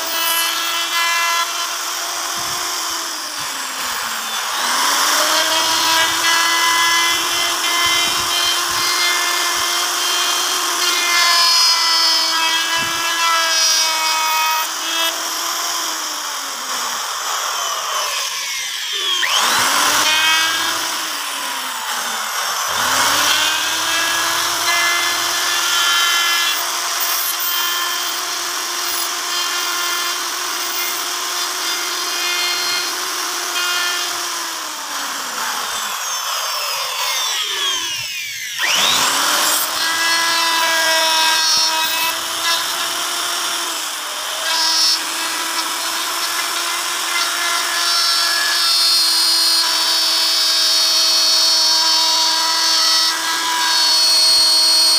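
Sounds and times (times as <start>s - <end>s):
router bit rasping in wood: 0.0s - 54.9s
router motor whine: 0.0s - 54.9s.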